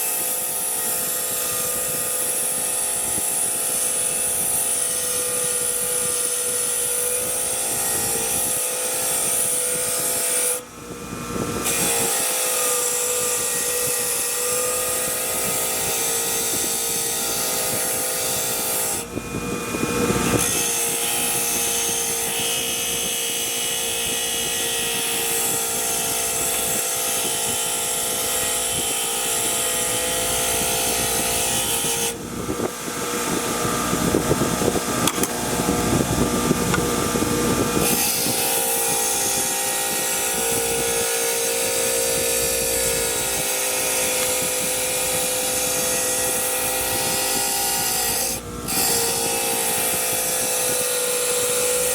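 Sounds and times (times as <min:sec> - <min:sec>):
power tool running: 0:00.0 - 0:51.9.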